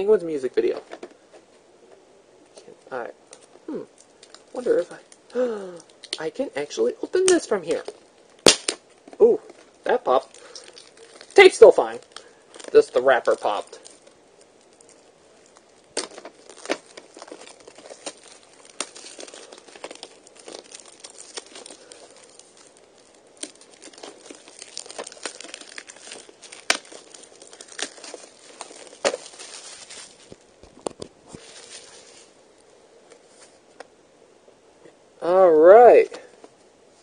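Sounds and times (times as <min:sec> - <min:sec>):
plastic wrap crackling: 0:03.3 - 0:33.8.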